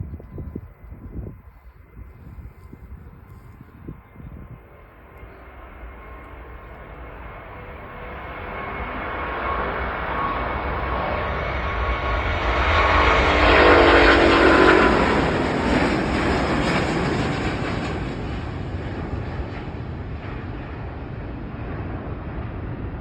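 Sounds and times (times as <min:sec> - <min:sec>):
jet engines roaring past: 0:00.0 - 0:23.0.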